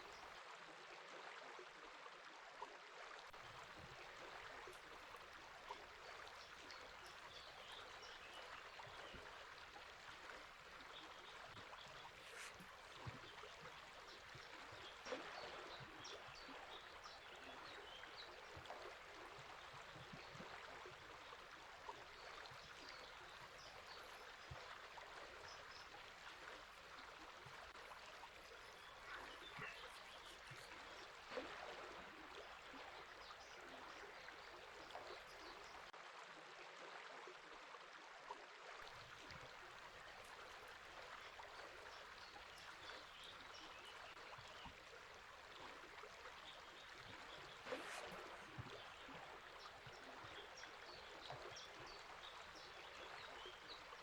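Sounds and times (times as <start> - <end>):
river flowing: 0.0 - 0.3, 3.3 - 35.9, 38.8 - 54.0
small birds chirping: 3.8 - 35.9, 39.3 - 54.0.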